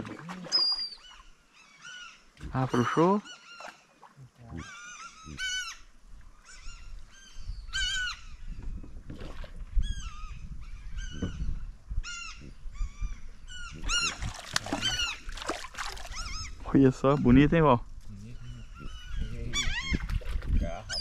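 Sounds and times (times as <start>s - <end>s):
gulls calling: 0.0s - 8.8s, 9.8s - 21.0s.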